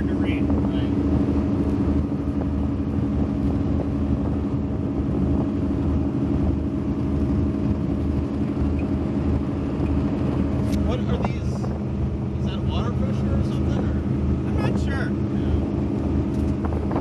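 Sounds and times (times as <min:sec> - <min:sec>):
powerboat engines droning: 0:00.0 - 0:17.0.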